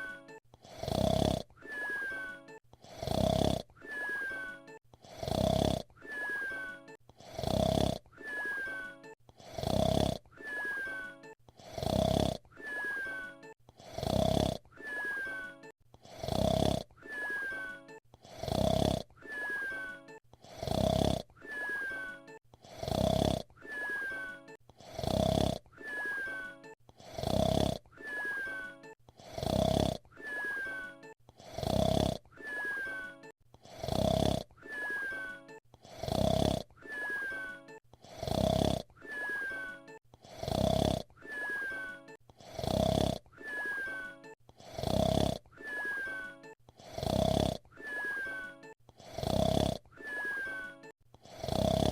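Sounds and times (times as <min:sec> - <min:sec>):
cartoon whistle snoring: 0:00.0 - 0:51.9.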